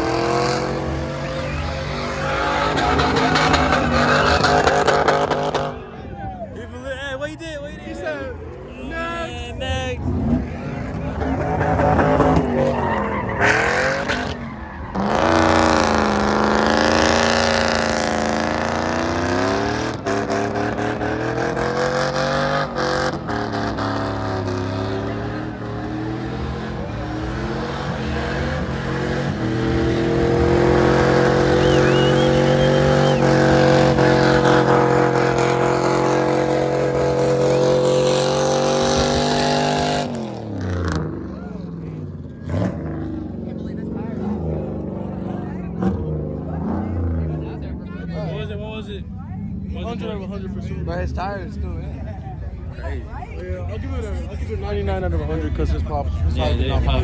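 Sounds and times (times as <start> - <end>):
truck engine revving hard: 0.0 - 6.0, 8.6 - 48.6
tires spinning on pavement: 0.0 - 6.9, 8.4 - 52.7.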